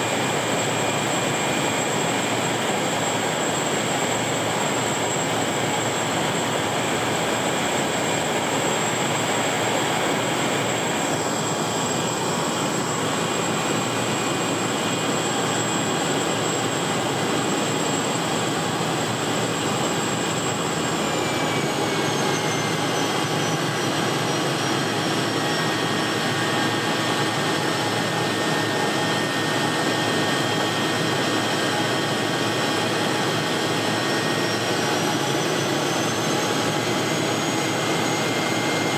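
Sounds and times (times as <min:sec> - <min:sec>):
plane engine and propeller: 0:00.0 - 0:38.9.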